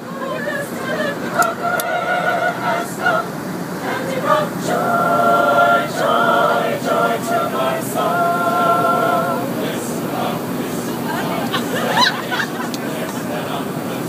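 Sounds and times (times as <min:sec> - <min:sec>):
mixed choir singing a cappella: 0:00.0 - 0:14.0.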